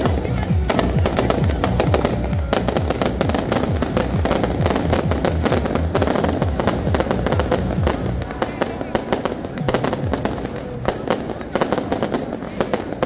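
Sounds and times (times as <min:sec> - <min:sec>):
music with heavy low beat: 0:00.0 - 0:12.4
firecrackers crackling and banging: 0:00.0 - 0:13.0.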